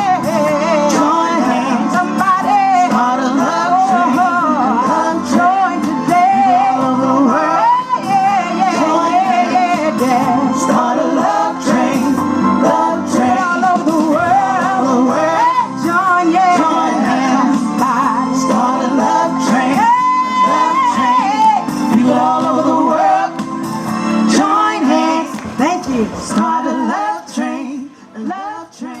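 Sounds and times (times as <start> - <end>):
man and woman singing with band: 0.0 - 29.0.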